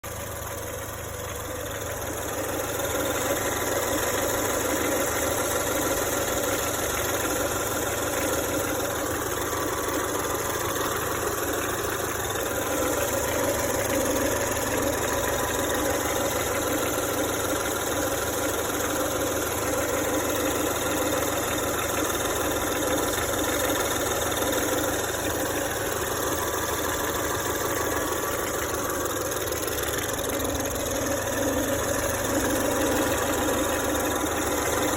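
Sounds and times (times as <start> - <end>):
car engine idling: 0.0 - 34.9
uneven engine clacking: 0.0 - 34.9.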